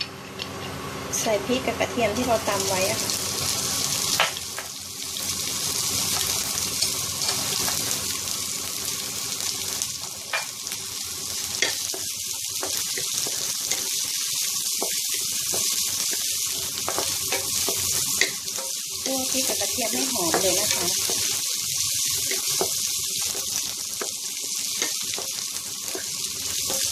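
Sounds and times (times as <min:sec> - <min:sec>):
chillies and garlic sizzling in oil: 0:00.0 - 0:26.9.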